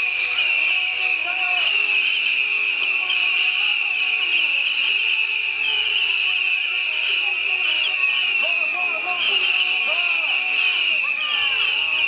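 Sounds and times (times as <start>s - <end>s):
firework rockets whistling: 0.0s - 12.0s.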